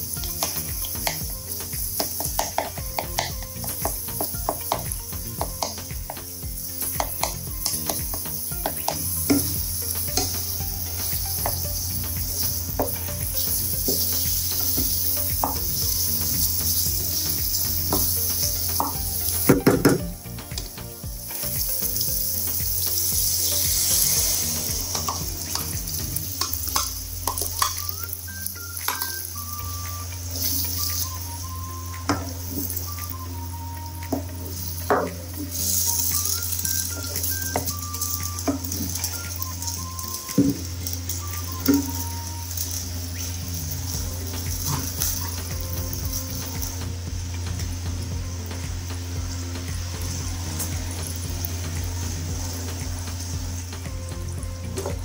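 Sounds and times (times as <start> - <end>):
faint background music: 0.0 - 55.0
meat sizzling in frying pan: 0.0 - 55.0.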